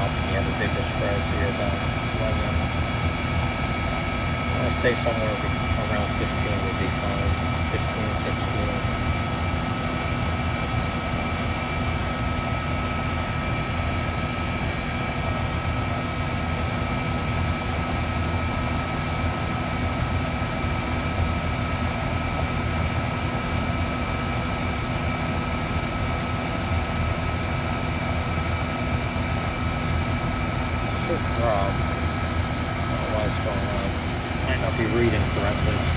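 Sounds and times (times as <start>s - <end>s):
heat pump unit droning: 0.0s - 35.9s.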